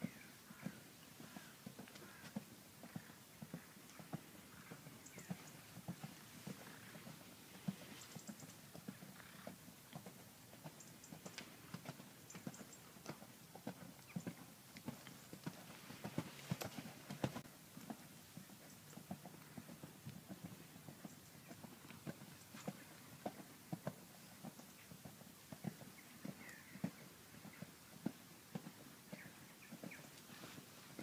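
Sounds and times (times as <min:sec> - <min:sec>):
hoofbeats on sand: 0:00.0 - 0:31.0.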